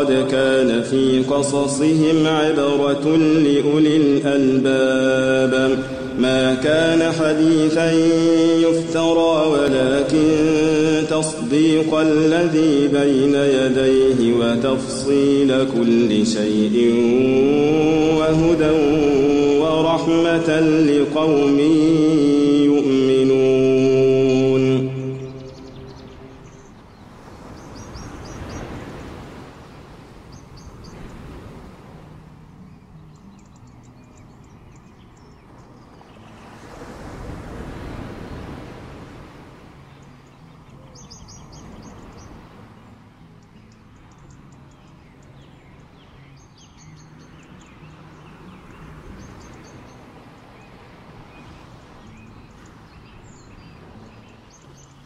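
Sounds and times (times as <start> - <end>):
small waves washing onto beach: 0.0 - 34.2, 34.9 - 55.0
birds chirping: 0.0 - 55.0.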